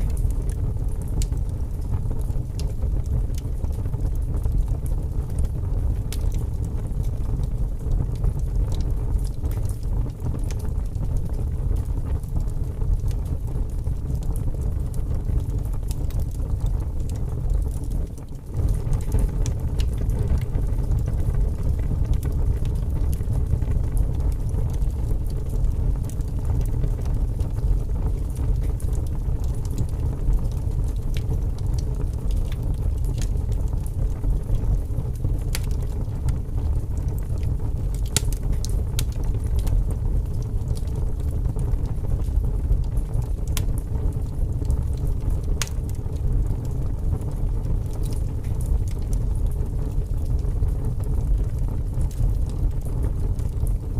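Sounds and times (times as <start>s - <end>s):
fire crackling and popping: 0.0s - 53.9s
low rumble of flames: 0.0s - 53.9s.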